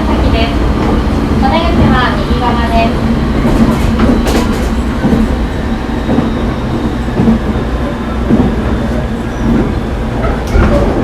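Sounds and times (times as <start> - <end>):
wheels clattering over rails: 0.8 - 11.0.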